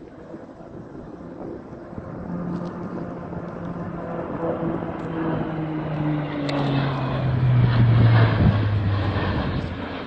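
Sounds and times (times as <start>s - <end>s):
turboprop airliner engine drone: 0.0s - 10.0s.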